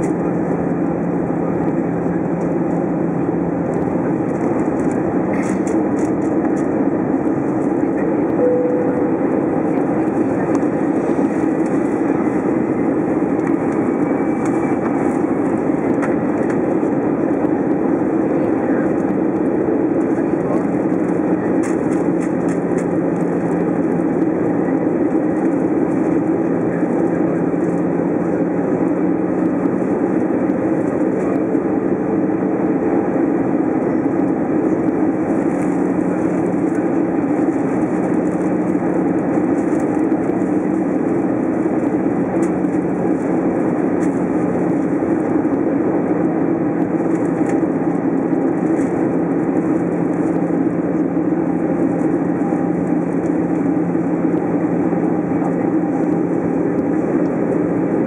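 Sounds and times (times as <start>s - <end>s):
airliner cabin engine and airflow: 0.0s - 58.0s.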